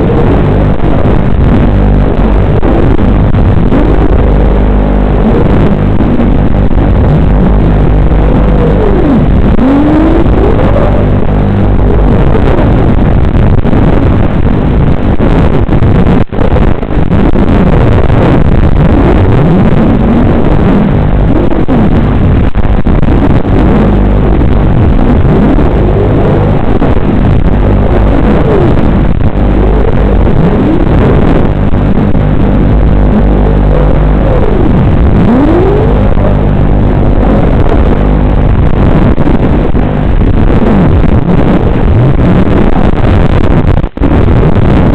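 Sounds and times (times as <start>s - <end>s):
drone motors buzzing: 0.0s - 44.8s.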